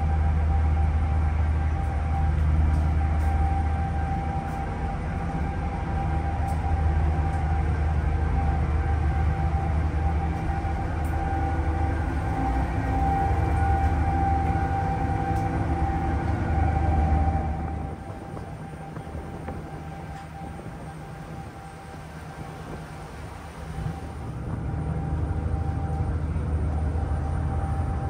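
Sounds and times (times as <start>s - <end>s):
ship engines humming: 0.0s - 28.0s
steady engine whine: 0.0s - 28.0s.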